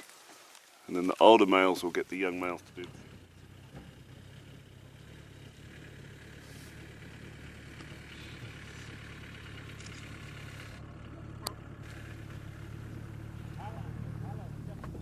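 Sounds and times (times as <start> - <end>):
vehicle engine idling: 0.9 - 15.0.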